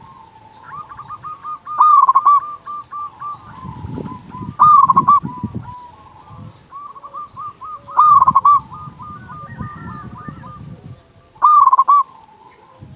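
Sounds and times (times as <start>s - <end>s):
dove cooing: 0.0s - 12.9s.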